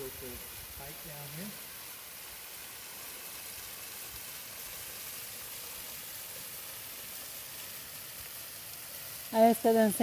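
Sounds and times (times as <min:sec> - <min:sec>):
water falling over waterfall: 0:00.0 - 0:10.0.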